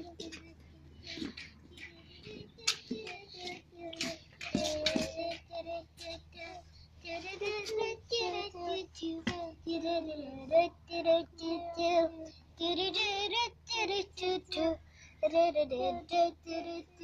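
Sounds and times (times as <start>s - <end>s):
child singing: 0.0s - 17.0s.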